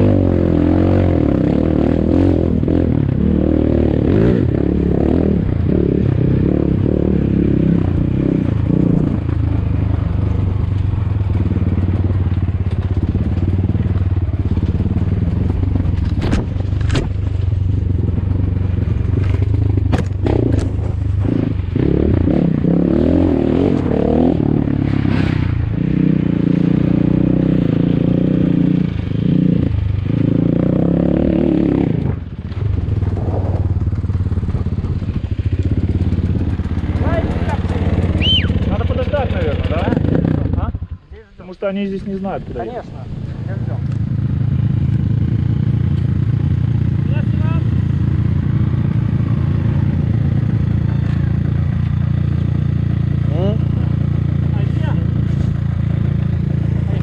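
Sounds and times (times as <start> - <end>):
motorcycle engine at low revs: 0.0 - 41.2, 42.0 - 57.0.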